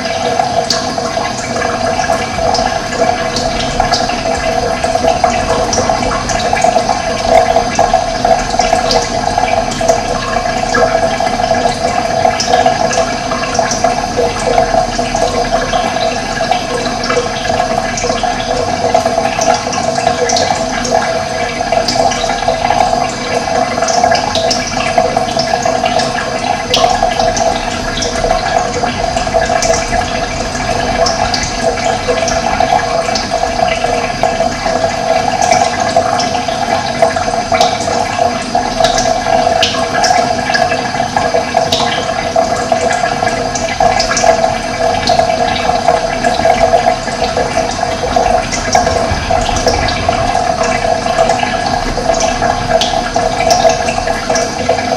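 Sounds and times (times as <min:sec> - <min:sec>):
running water rushing: 0:00.0 - 0:54.9.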